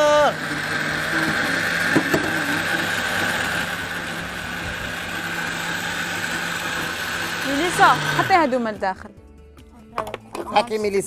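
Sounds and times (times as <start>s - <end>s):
electric blender running: 0.0s - 9.1s.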